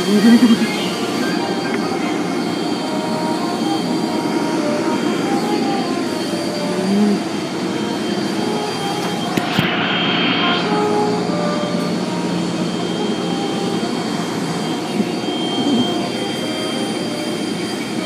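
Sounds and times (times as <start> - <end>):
hissing surge: 0.0 - 18.0.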